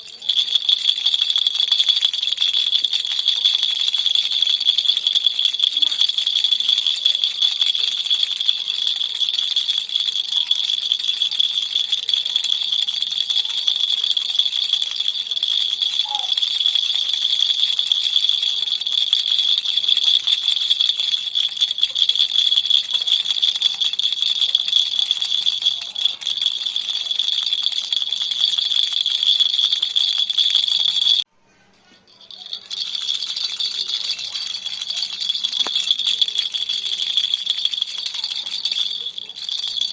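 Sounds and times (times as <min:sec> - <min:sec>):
baby's toy rattle shaking: 0:00.0 - 0:31.3, 0:31.9 - 0:39.9.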